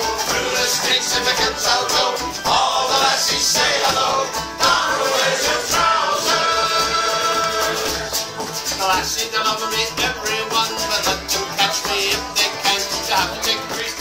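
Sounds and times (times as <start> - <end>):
acoustic guitars strumming: 0.0 - 14.0
voices singing together: 0.0 - 14.0.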